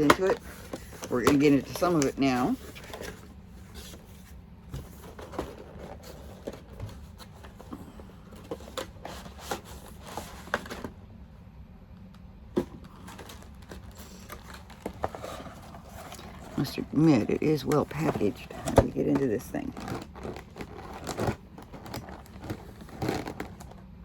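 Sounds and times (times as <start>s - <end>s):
cardboard and wrapping rustling: 0.0s - 11.0s, 12.6s - 24.0s.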